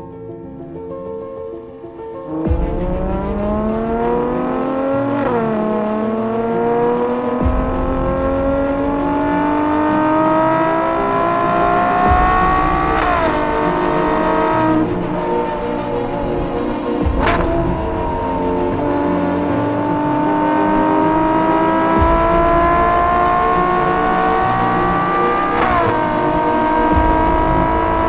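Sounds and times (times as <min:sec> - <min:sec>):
sports car engine accelerating: 0:02.5 - 0:28.0.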